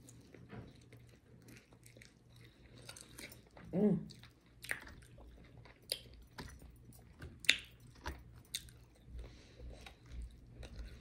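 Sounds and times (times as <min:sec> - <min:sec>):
crunchy chewing of fried chicken: 0:00.0 - 0:11.0.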